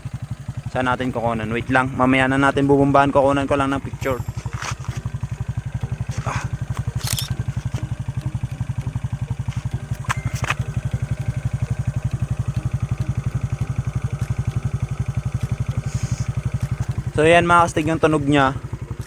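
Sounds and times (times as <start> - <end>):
clattering engine tick: 0.0 - 19.0
motorcycle engine idling: 0.0 - 19.0.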